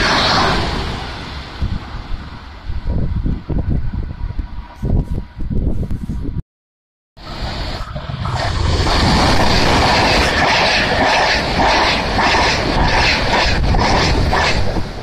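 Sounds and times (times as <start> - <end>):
rush of train wheels on rail: 0.0 - 5.3, 7.2 - 15.0.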